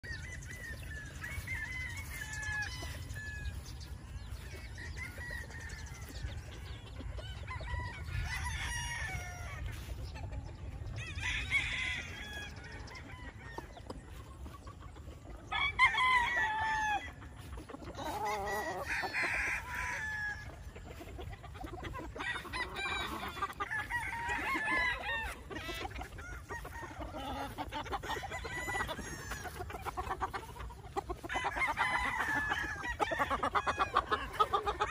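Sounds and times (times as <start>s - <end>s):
roosters crowing: 0.0s - 34.9s.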